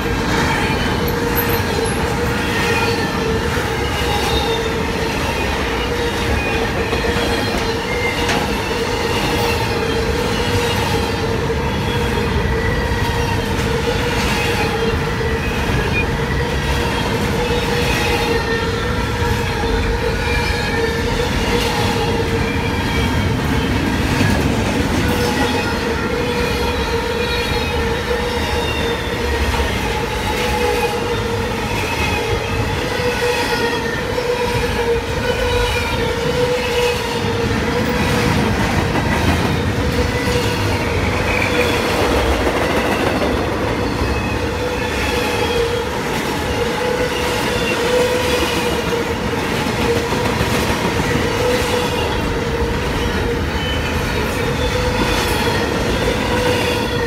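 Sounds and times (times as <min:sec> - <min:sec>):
train wheels rumbling on rail: 0:00.0 - 0:57.0
high wheel squeal: 0:00.2 - 0:38.4, 0:39.3 - 0:57.0.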